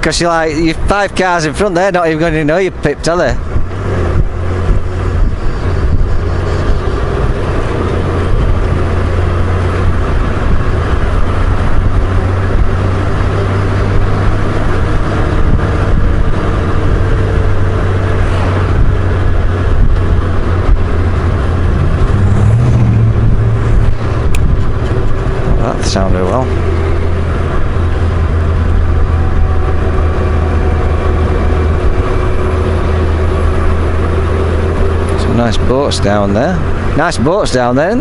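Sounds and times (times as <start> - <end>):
motorcycle engine drone: 0.0 - 38.0
wind and road noise: 0.0 - 38.0.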